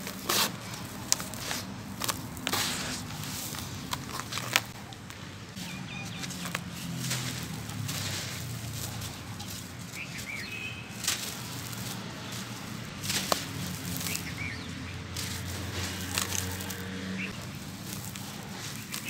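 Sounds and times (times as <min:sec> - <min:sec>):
sharp crunches: 0:00.0 - 0:19.0.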